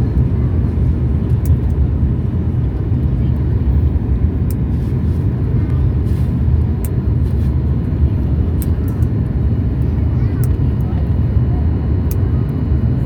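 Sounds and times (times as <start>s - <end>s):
aircraft engines rumbling: 0.0s - 13.0s.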